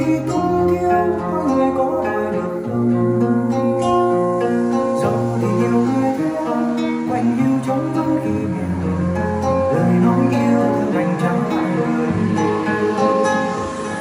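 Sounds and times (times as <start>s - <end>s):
song with guitar and bass: 0.0s - 14.0s.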